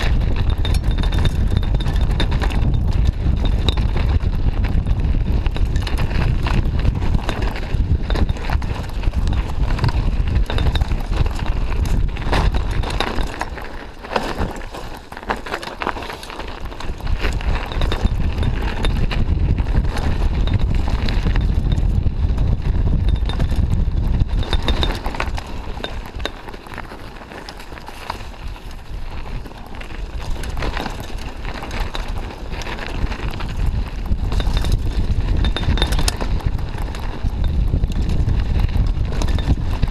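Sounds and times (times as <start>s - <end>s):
bike rattling and knocking: 0.0s - 39.9s
wind rumble on microphone: 0.0s - 39.9s.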